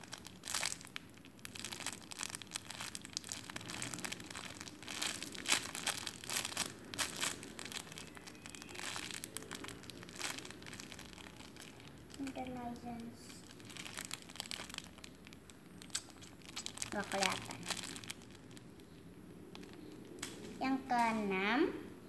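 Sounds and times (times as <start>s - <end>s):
plastic bag crinkling: 0.0s - 18.9s, 19.5s - 21.1s.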